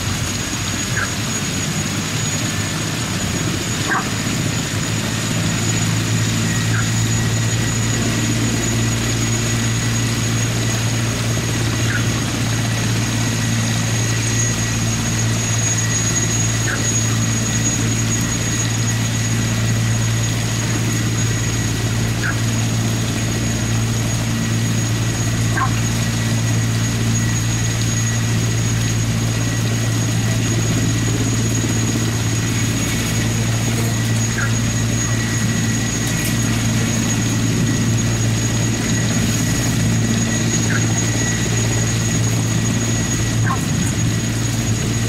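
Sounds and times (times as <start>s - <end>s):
helicopter rotors low drone: 0.0s - 45.0s
high turbine whine: 0.0s - 45.0s.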